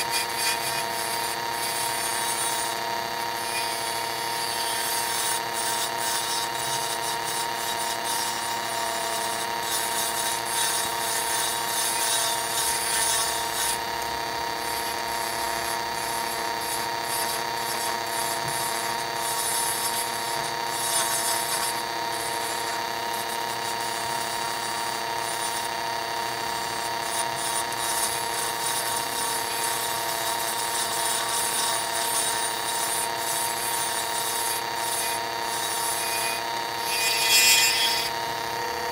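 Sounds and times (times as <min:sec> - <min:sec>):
tool scraping wood: 0:00.0 - 0:25.8, 0:26.4 - 0:38.9
wood lathe motor whine: 0:00.0 - 0:38.9.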